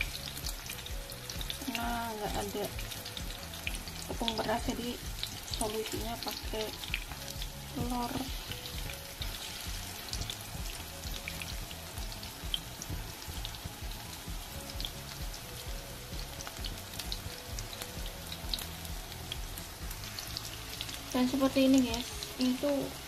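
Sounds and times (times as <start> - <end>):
fritters sizzling in oil: 0.0 - 23.0.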